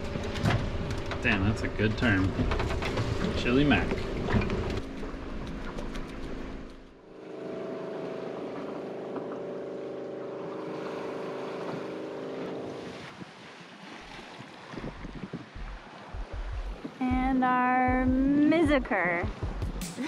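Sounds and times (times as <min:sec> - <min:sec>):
water and wind: 0:00.0 - 0:20.0.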